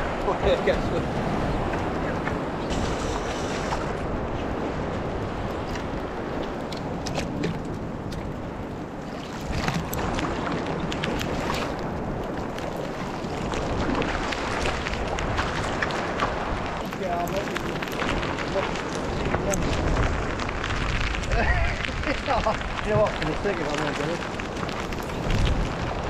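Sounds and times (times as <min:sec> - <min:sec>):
sea surf: 0:00.0 - 0:26.0
wind buffeting microphone: 0:00.0 - 0:26.0.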